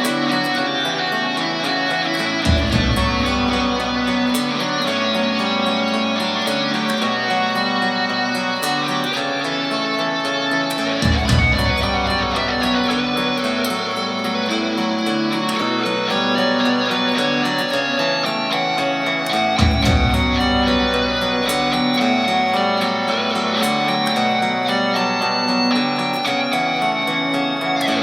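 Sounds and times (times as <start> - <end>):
guitar-led music track: 0.0 - 28.0
ticking percussion: 0.0 - 28.0.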